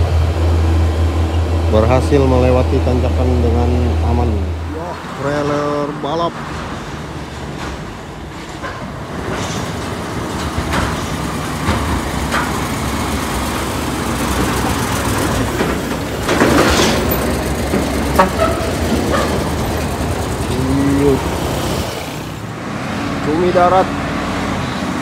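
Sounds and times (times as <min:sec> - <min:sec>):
loud rushing noise: 0:00.0 - 0:25.0
truck diesel engine driving by: 0:00.0 - 0:25.0.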